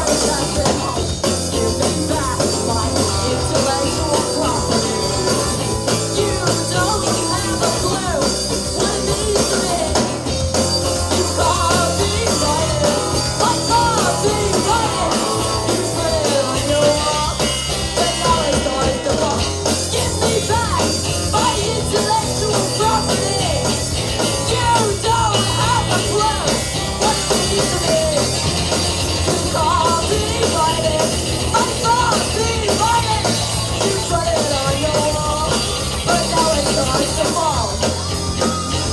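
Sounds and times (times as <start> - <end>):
bass guitar: 0.0 - 38.9
drums: 0.0 - 38.9
electric guitar: 0.0 - 38.9
person singing: 0.0 - 38.9.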